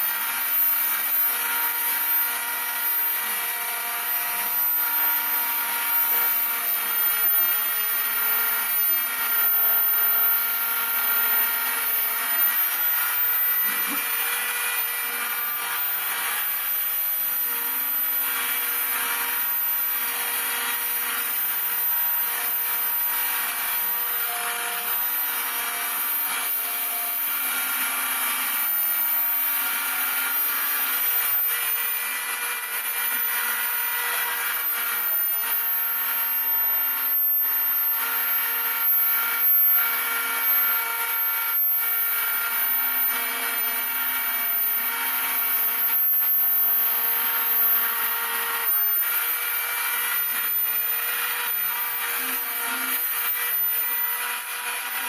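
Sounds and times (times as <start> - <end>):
cutter hissing through material: 0.0 - 55.0
router spindle whine: 0.0 - 55.0.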